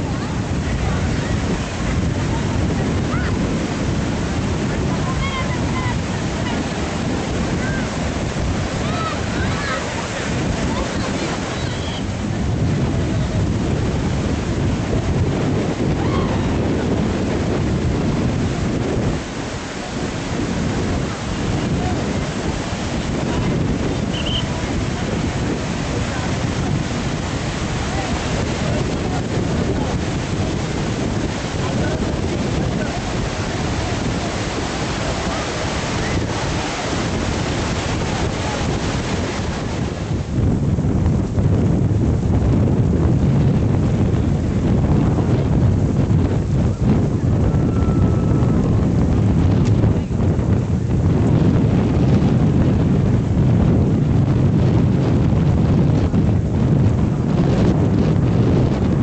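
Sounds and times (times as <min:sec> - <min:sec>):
sea surf: 0:00.0 - 0:59.0
waves breaking on beach: 0:00.0 - 0:59.0
wind buffeting microphone: 0:00.0 - 0:59.0.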